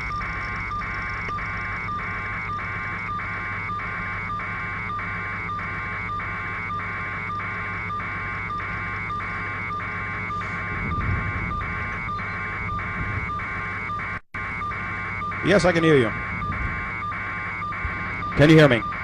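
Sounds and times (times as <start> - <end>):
low rumble: 0.0 - 15.4, 16.1 - 19.0
pulsing electronic buzz: 0.0 - 19.0
steady low hum: 0.0 - 19.0.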